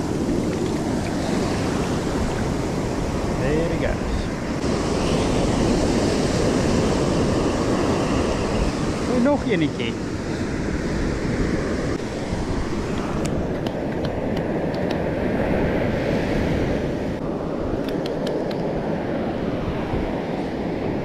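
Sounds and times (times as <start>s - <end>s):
surf washing up the beach: 0.0s - 21.0s
wind buffeting microphone: 0.0s - 21.0s.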